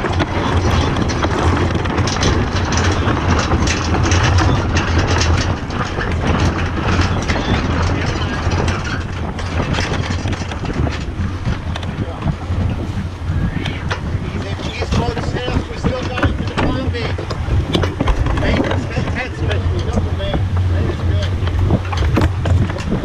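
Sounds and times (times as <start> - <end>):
winch pawls clicking: 0.0 - 23.0
wind noise on microphone: 0.0 - 23.0.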